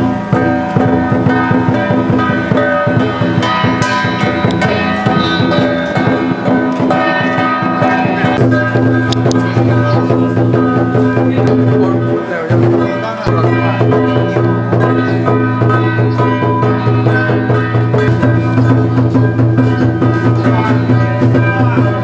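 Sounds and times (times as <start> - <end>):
fast steady drumbeats: 0.0 - 22.0
held melodic notes: 0.0 - 22.0.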